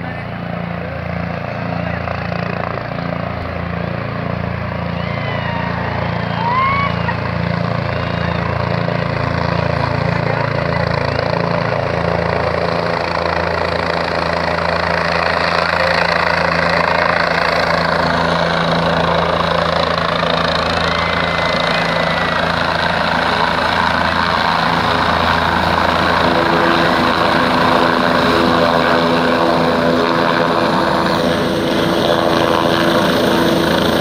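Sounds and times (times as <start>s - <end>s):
helicopter rotor beating: 0.0s - 34.0s.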